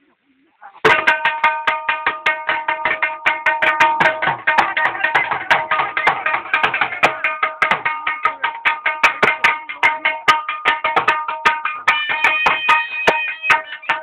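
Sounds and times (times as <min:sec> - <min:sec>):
fast hand drum rhythm: 0:00.8 - 0:14.0.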